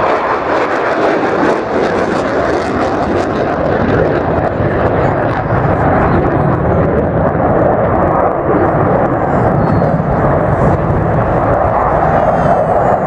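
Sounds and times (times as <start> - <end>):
aircraft engine roar: 0.0 - 13.0.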